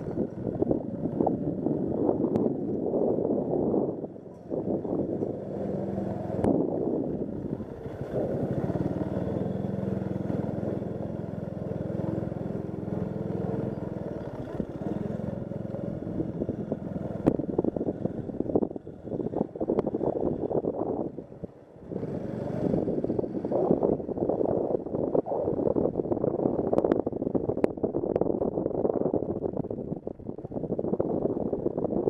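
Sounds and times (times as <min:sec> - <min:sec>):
motorcycle engine running: 0:00.0 - 0:28.3.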